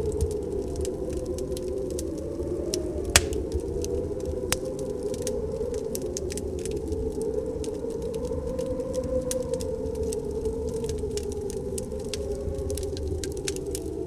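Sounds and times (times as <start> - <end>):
snowstorm wind howling: 0.0 - 14.0
wood fire crackling: 0.0 - 14.0.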